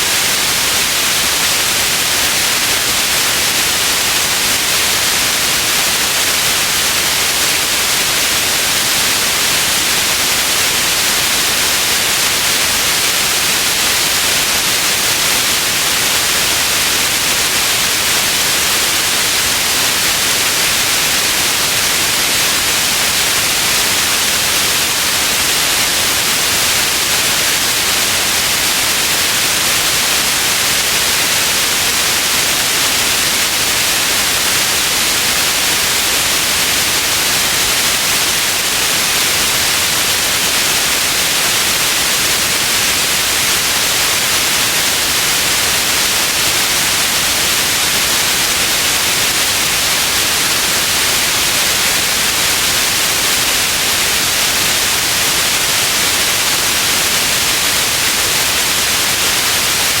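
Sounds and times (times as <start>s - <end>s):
steady white noise hiss: 0.0s - 60.0s.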